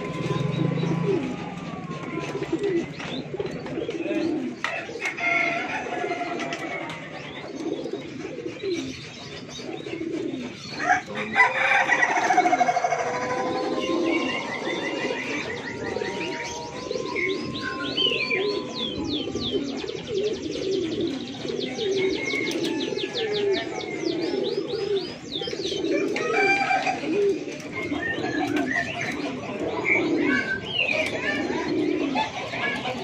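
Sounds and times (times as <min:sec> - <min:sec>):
small birds chirping: 0:00.0 - 0:05.1, 0:06.1 - 0:33.0
pigeons cooing: 0:00.0 - 0:33.0.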